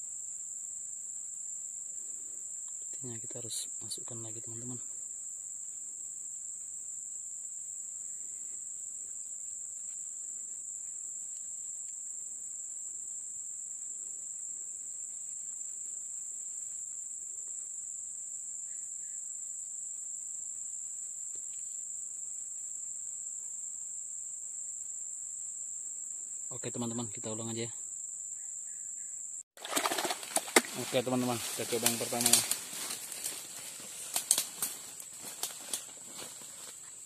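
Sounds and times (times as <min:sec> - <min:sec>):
insects droning: 0:00.0 - 0:37.0.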